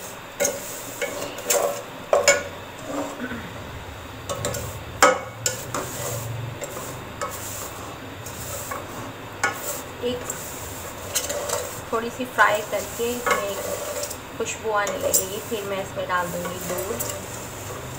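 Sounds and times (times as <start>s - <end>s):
wooden spatula scraping metal pot: 0.4s - 3.3s, 4.3s - 17.9s.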